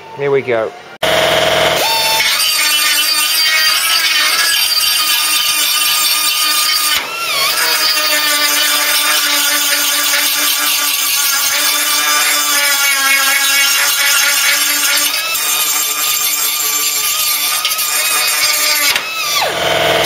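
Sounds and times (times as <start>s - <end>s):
power drill whining: 1.0s - 12.8s, 13.4s - 20.0s
drill bit grinding metal: 1.0s - 20.0s.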